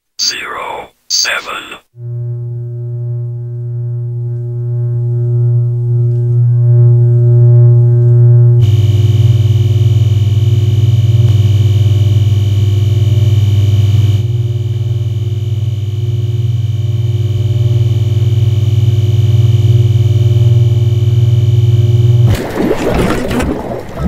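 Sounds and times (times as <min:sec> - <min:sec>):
power line electrical hum: 0:00.0 - 0:24.0.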